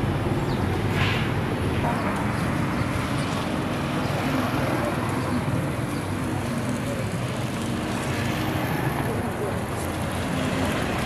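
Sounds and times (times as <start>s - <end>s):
busy street din: 0.0s - 11.0s
vehicle engines humming: 0.0s - 11.0s.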